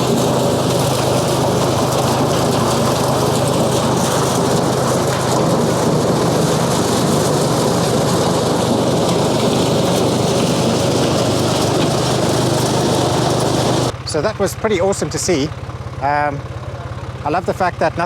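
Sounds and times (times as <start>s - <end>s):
corn sheller rattling: 0.0s - 15.2s
tractor engine humming: 0.0s - 18.0s.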